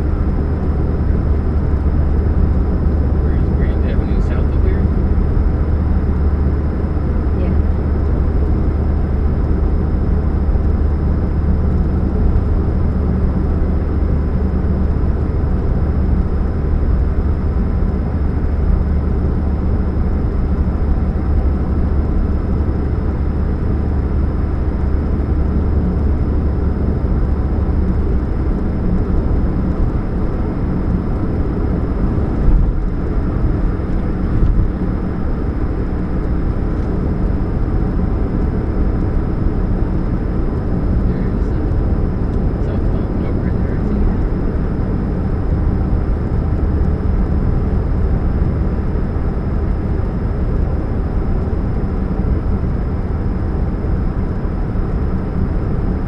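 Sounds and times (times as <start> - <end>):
car engine humming: 0.0 - 48.8.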